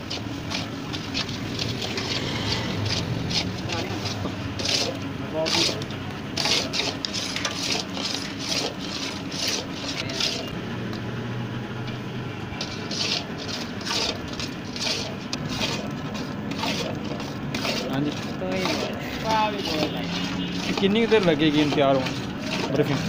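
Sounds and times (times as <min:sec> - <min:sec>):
metal spatula scraping metal pan: 0:00.0 - 0:10.6, 0:12.6 - 0:23.0.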